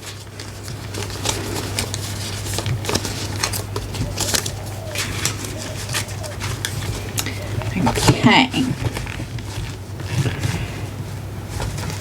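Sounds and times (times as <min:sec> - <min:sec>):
banknotes crinkling and rustling: 0:00.0 - 0:12.0.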